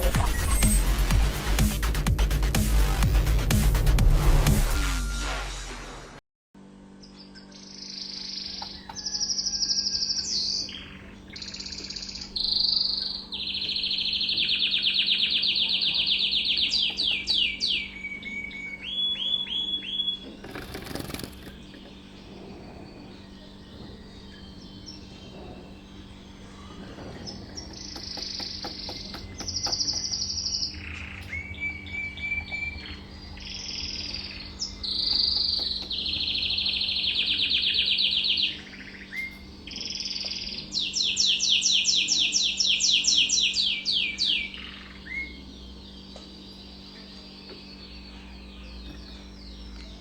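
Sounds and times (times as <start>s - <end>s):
canary singing trills: 7.1s - 50.0s.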